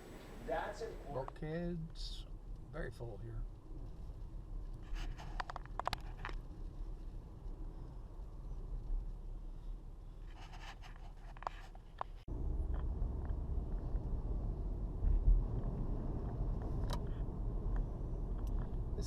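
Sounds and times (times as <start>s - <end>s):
low steady rumble: 0.0s - 10.3s, 12.0s - 19.0s
faint clicks and rustles: 3.4s - 19.0s.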